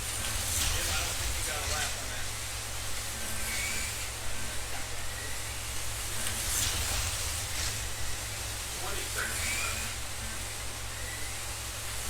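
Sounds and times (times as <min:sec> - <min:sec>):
slot car motors whirring: 0:00.2 - 0:12.0.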